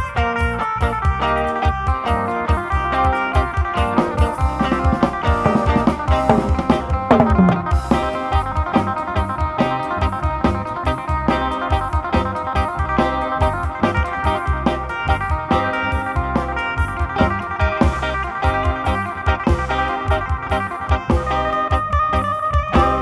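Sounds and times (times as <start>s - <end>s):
bass: 0.0s - 23.0s
drum kit beat: 0.0s - 23.0s
plucked electric lute melody: 0.0s - 23.0s.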